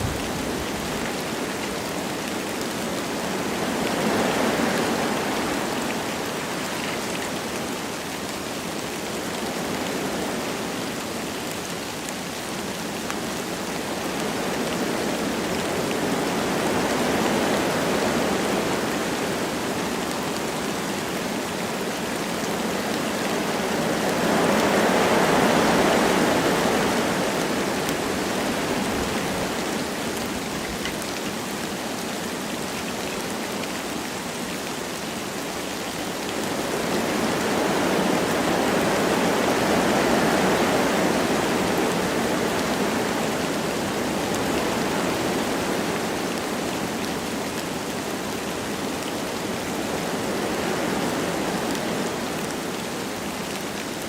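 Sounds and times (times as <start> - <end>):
wind gusting through trees: 0.0 - 54.0.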